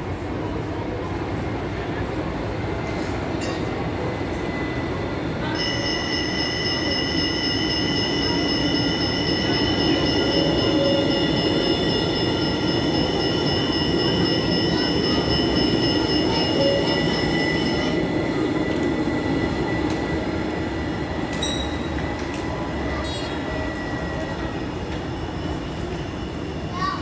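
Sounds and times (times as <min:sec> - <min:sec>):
tram running gear rumble: 0:00.0 - 0:26.7
tram wheels squealing: 0:01.5 - 0:27.0.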